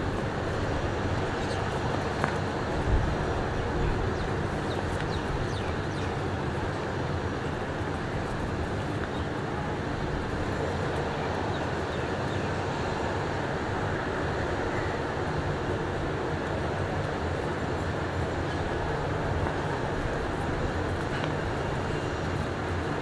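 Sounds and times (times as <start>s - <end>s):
turboprop aircraft engines droning: 0.0s - 23.0s.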